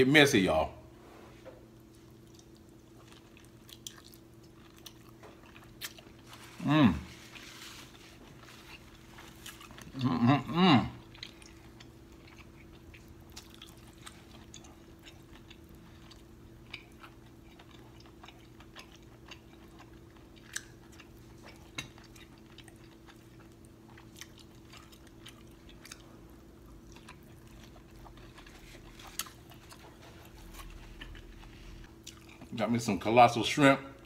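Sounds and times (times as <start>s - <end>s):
faint steady hum: 0.0s - 34.0s
chewing and wet smacks: 1.9s - 6.4s, 8.3s - 10.0s, 11.0s - 32.6s.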